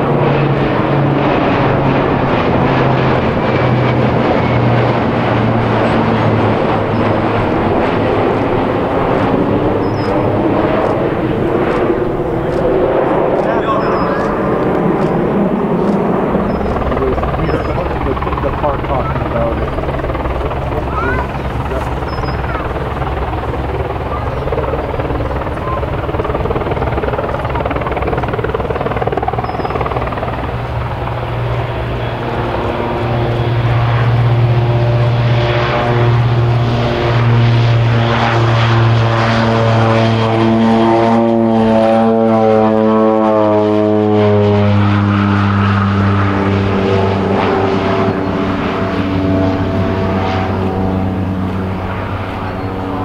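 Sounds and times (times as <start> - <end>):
propeller plane droning: 0.0 - 53.0.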